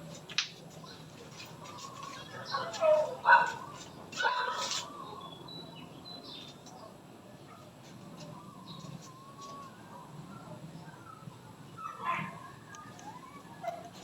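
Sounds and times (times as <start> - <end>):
low steady background noise: 0.0 - 14.0
birds chirping: 0.8 - 14.0.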